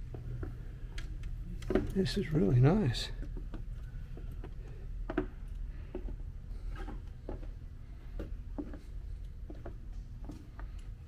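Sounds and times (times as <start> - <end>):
low hum of large hall: 0.0 - 11.0.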